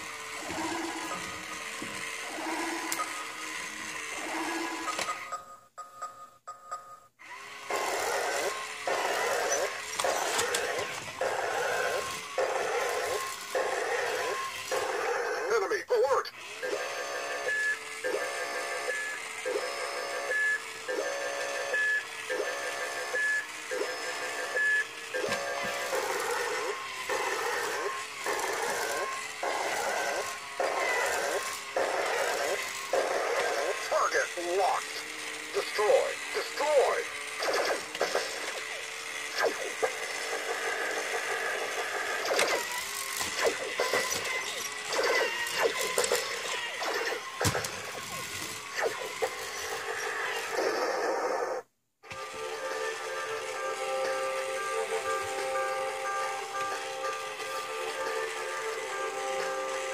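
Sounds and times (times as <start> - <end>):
toy robot beeping and buzzing: 0.0 - 5.5, 7.2 - 59.9.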